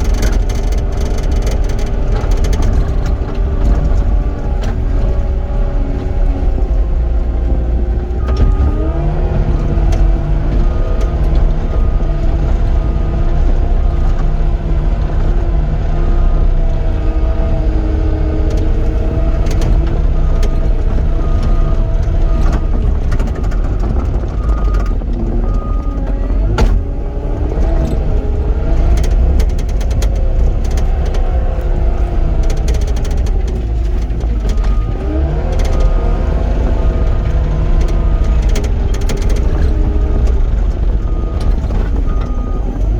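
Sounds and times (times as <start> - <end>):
loader diesel engine: 0.0 - 42.9
tracks and bucket clanking: 0.0 - 42.9.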